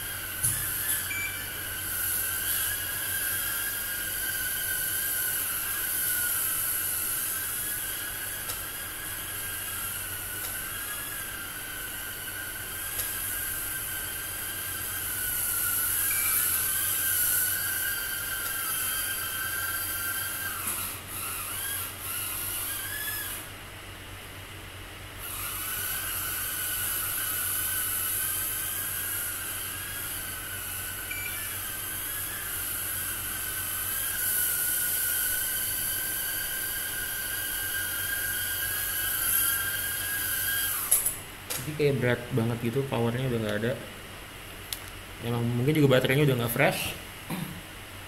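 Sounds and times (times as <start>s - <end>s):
small drone whining in flight: 0.0s - 23.7s, 25.1s - 41.2s.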